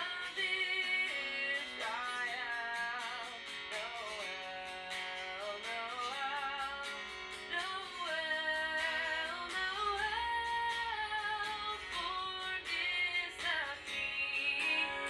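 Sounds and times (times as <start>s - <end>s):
person singing: 0.0s - 15.0s
strummed acoustic guitar: 0.0s - 15.0s.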